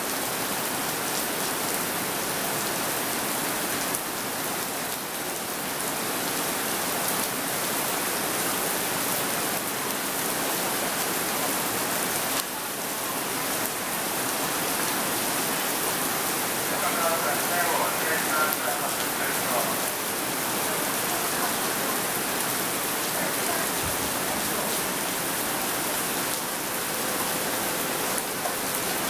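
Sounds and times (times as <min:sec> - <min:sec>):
heavy rain on a roof: 0:00.0 - 0:29.0.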